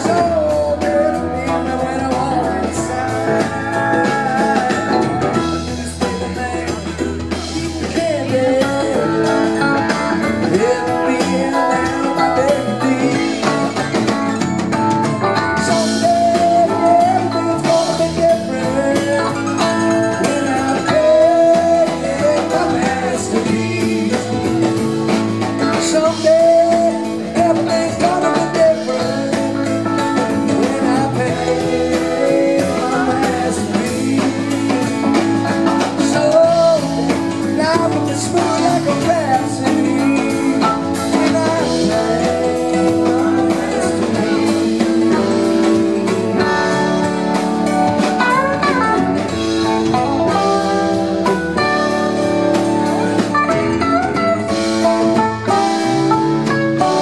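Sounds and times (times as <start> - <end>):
live rock band playing: 0.0 - 57.0
steady drum beat: 0.0 - 57.0.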